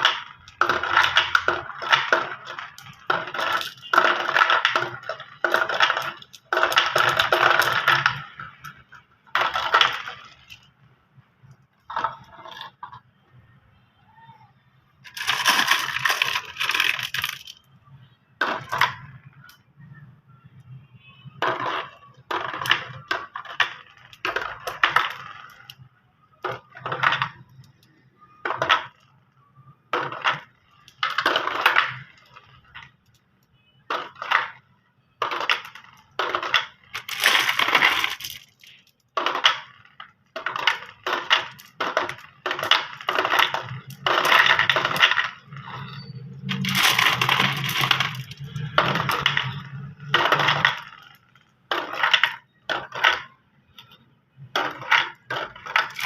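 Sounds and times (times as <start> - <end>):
marbles clattering down a track: 0.0 - 13.4, 15.0 - 20.7, 21.3 - 56.0.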